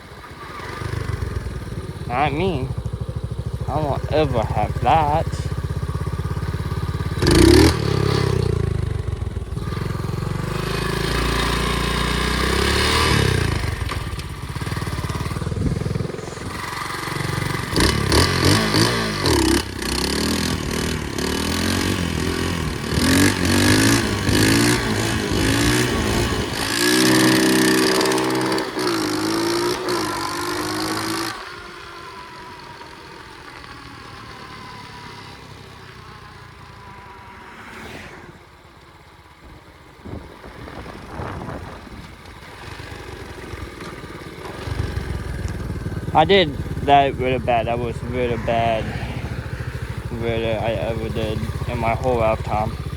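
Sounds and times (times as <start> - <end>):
pit bike engine revving: 0.0 - 52.9.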